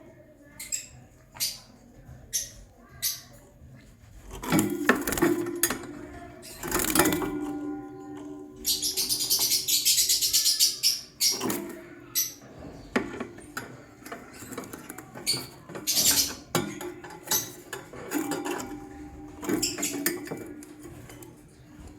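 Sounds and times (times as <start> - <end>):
lovebirds chattering and chirping: 0.4 - 21.9.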